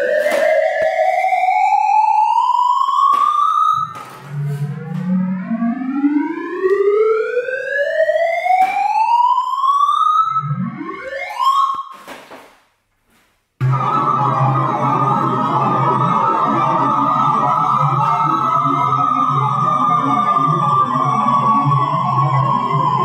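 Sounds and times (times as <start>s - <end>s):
synthesized rising tones: 0.0s - 8.4s, 9.0s - 11.6s, 13.6s - 23.0s.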